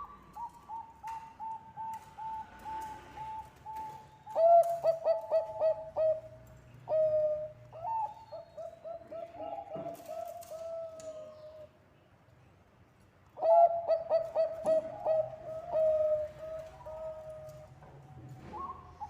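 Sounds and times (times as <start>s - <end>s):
doves cooing: 0.0s - 11.7s, 13.4s - 19.0s.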